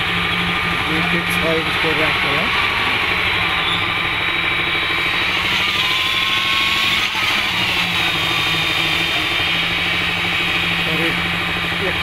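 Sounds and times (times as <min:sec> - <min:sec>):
machinery engine droning: 0:00.0 - 0:12.0.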